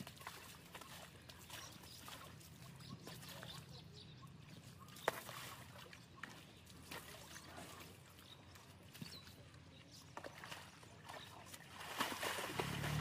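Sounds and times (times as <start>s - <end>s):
feet squelching in wet mud: 0.0s - 13.0s.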